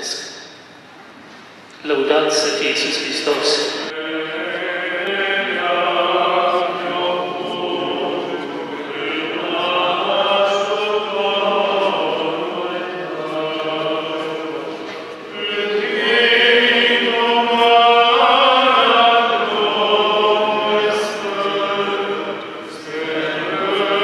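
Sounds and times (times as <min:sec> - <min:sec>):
choir singing chant: 0:02.8 - 0:24.0.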